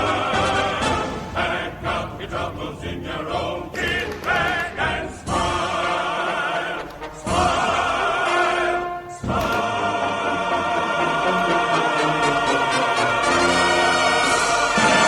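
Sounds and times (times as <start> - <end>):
choral operatic singing: 0.0 - 15.0.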